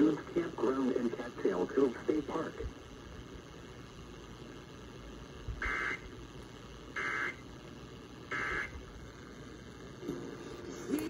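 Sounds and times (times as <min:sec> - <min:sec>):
buzzy data bursts: 0:00.0 - 0:11.0
faint radio hiss: 0:00.0 - 0:11.0.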